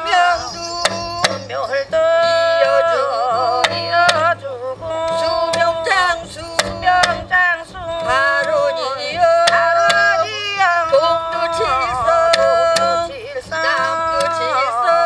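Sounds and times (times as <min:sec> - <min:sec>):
barrel drum strokes: 0:00.0 - 0:15.0
wavering sliding melody: 0:00.0 - 0:15.0.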